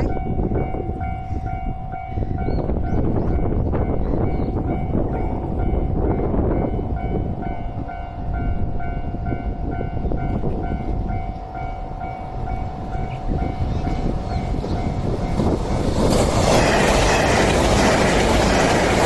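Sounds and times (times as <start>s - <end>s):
low rumble of passing train: 0.0s - 19.0s.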